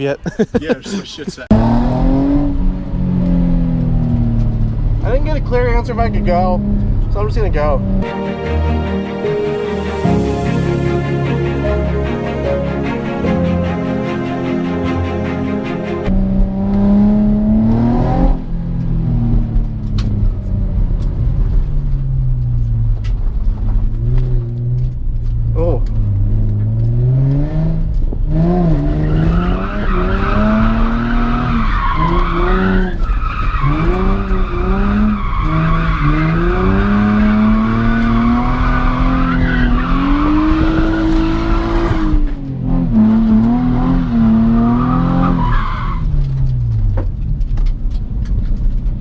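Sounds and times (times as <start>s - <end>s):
car engine revving: 1.5s - 47.7s.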